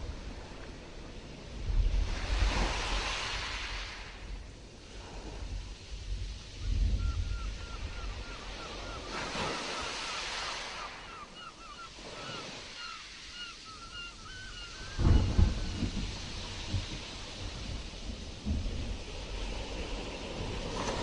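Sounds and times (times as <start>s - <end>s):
waves washing in: 0.0s - 21.0s.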